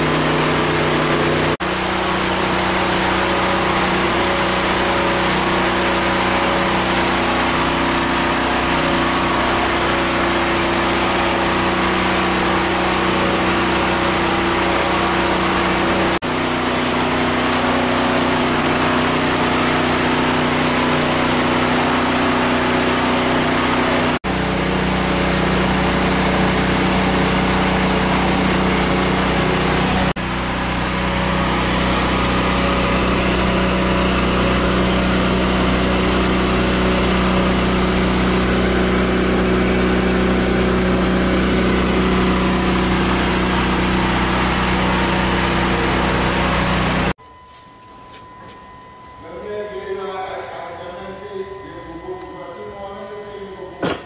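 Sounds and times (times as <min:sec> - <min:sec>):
engine humming steadily: 0:00.0 - 0:54.0.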